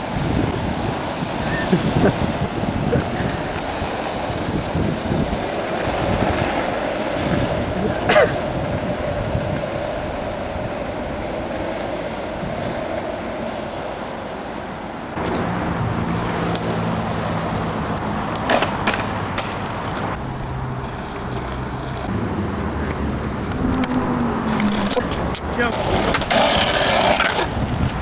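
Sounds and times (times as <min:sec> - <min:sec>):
skateboard wheels rolling on asphalt: 0:00.0 - 0:28.0.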